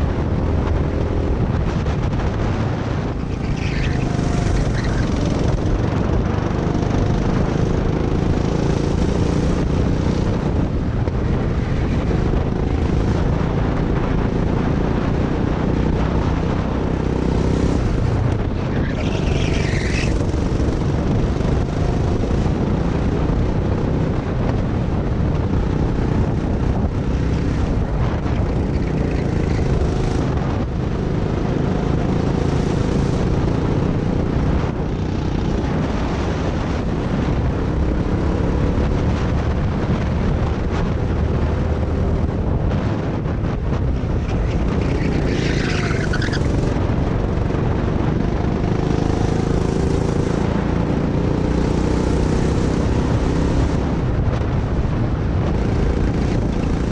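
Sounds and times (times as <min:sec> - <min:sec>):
go-kart engine running hard: 0:00.0 - 0:56.9
wind rushing on microphone: 0:00.0 - 0:56.9.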